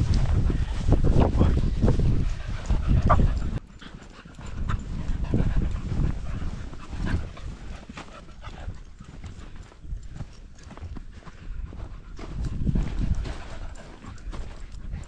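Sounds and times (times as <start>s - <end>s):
dogs trotting on grass: 0.0s - 15.0s
footsteps: 0.0s - 15.0s
wind rumbling on microphone: 0.0s - 15.0s
dogs panting: 0.5s - 15.0s.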